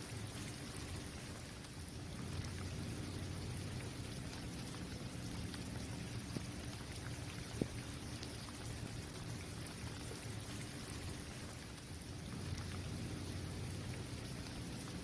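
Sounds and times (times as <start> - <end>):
rain falling on a court: 0.0 - 15.0.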